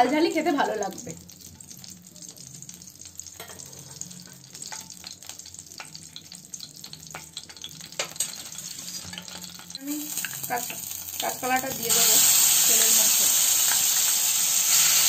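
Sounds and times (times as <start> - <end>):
chillies sizzling in hot oil: 0.0 - 15.0
oil crackling and popping: 0.4 - 15.0.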